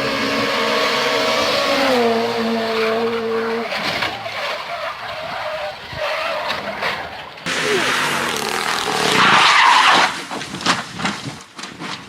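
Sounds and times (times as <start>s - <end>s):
rally car engine: 0.0s - 10.9s
tyres skidding: 0.0s - 12.0s.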